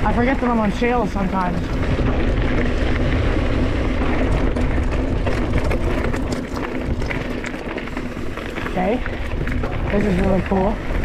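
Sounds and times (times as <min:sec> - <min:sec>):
wind buffeting microphone: 0:00.0 - 0:11.0
tyres rolling over loose shale: 0:00.1 - 0:11.0
bike rattling clicks: 0:01.1 - 0:11.0.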